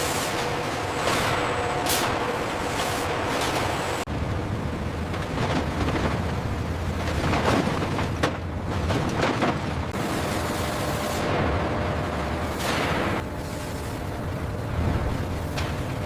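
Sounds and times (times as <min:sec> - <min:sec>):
heavy machinery rumbling: 0:00.0 - 0:16.0.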